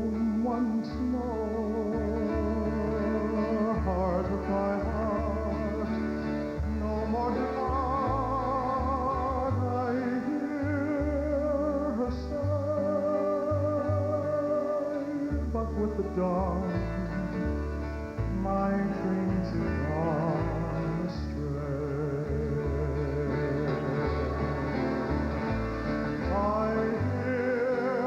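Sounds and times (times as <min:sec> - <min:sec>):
men singing with vibrato: 0:00.0 - 0:17.5, 0:18.2 - 0:28.0
acoustic strings: 0:00.0 - 0:28.0
bass line: 0:00.0 - 0:28.0.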